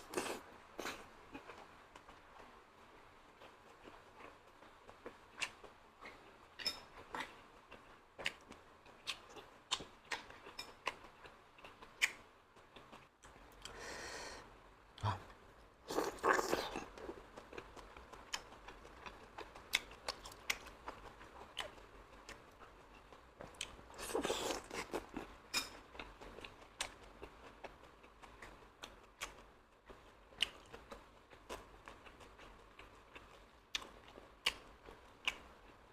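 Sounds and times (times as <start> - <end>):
wet chewing and mouth smacking: 3.3 - 13.8, 15.9 - 35.9.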